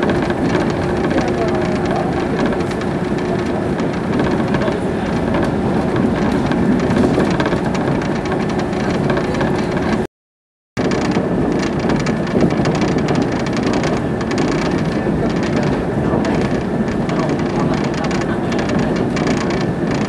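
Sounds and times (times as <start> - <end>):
train running noise: 0.0 - 10.1, 10.8 - 20.0.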